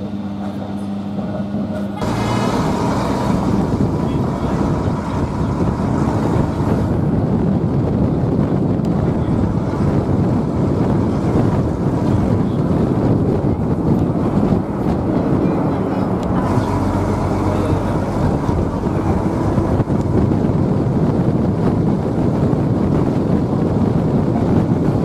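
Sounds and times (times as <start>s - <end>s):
moving vehicle rumble: 0.0s - 25.0s
wind buffeting microphone: 1.4s - 25.0s.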